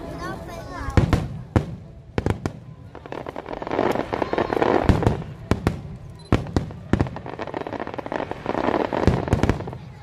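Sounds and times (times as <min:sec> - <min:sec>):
firework crackle: 0:00.6 - 0:10.0.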